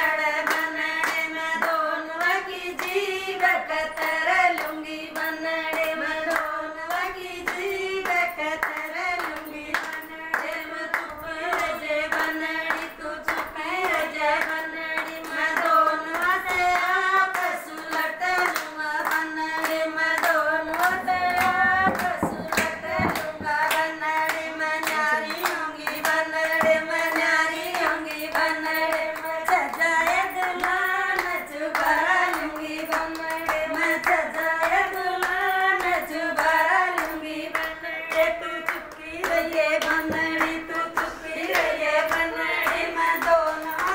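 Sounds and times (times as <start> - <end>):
rhythmic hand claps: 0.0 - 43.9
women singing in unison: 0.0 - 43.9.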